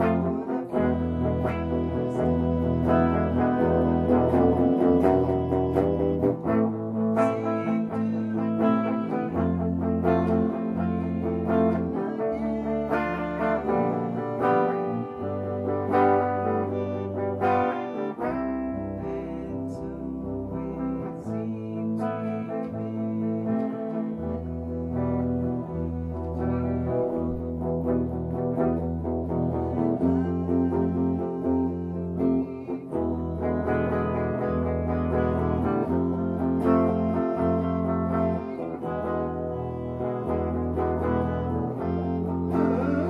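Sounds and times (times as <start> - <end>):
band playing guitar-led instrumental: 0.0 - 43.0
held bass notes: 0.0 - 43.0.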